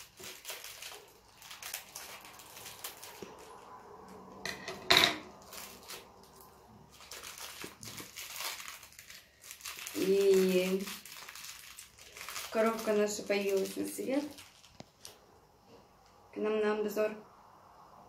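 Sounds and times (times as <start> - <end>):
wrapper rustling: 0.0 - 4.4, 5.2 - 15.3.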